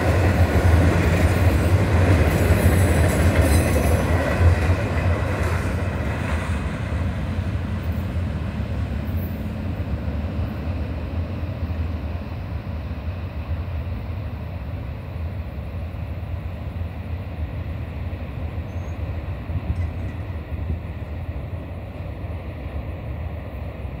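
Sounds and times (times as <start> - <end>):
freight train rolling past: 0.0 - 24.0
low train rumble: 0.0 - 24.0.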